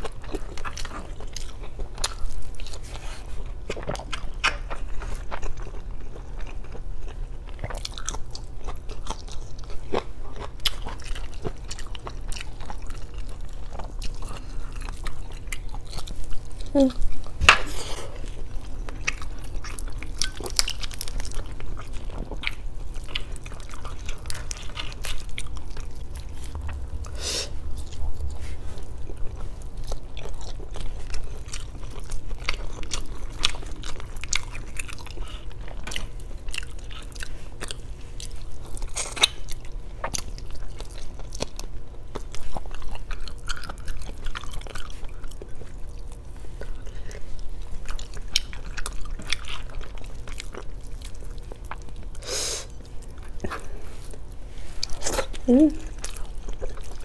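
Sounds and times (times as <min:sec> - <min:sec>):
person chewing with mouth clicks: 0:00.0 - 0:57.0.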